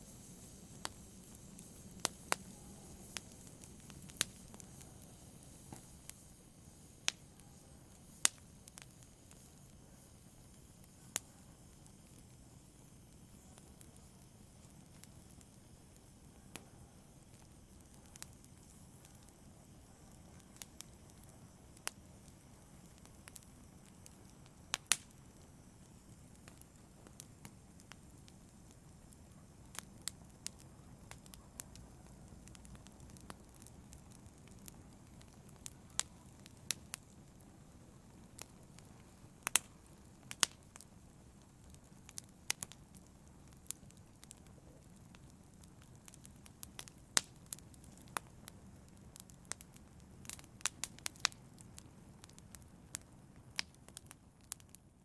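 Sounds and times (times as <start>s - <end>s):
fire hissing: 0.0s - 54.8s
fire crackles and pops: 0.0s - 55.0s.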